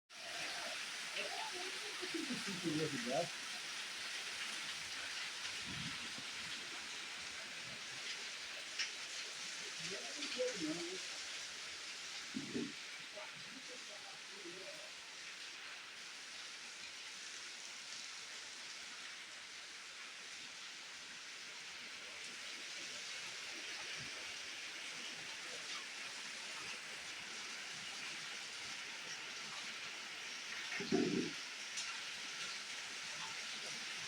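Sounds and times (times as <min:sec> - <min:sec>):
steady rain falling: 0:00.1 - 0:34.0.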